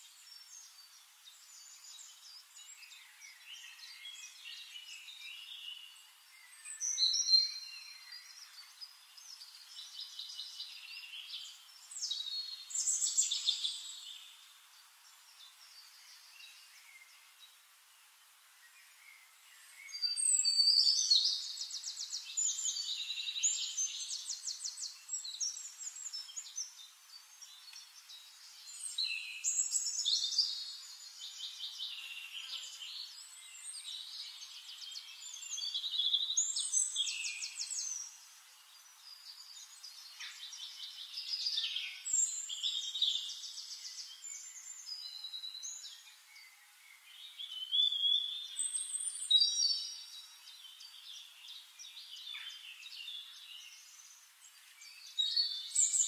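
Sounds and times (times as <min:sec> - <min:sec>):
quiet bird twittering: 0:00.0 - 0:17.6, 0:18.5 - 0:56.0
songbird trilling and chirping: 0:00.1 - 0:17.3, 0:19.6 - 0:56.0.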